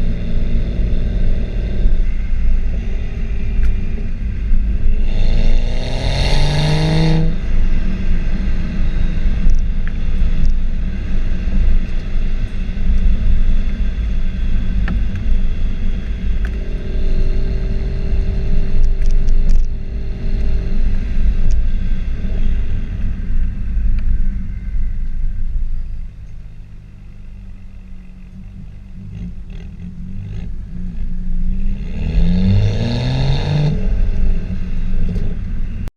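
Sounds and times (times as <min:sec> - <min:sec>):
car exhaust rumble revving: 0:00.0 - 0:35.9.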